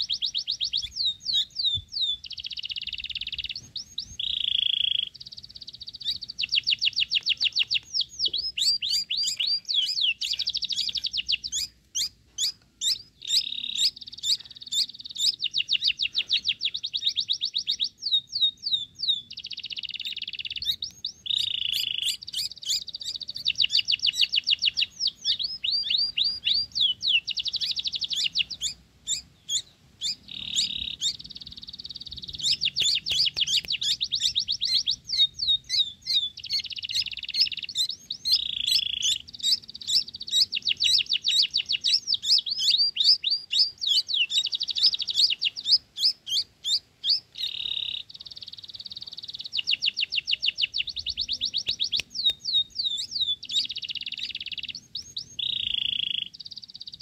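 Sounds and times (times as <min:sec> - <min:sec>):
fledglings begging chirps: 0:00.0 - 0:57.0.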